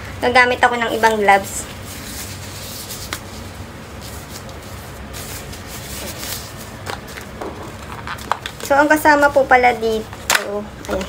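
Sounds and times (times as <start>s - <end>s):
plastic gloves rustling: 0.0s - 11.0s.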